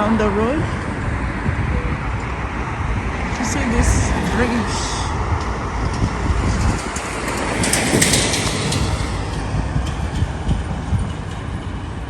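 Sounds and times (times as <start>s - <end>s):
traffic rumble: 0.0s - 12.0s
vehicle rushing by: 0.7s - 11.1s.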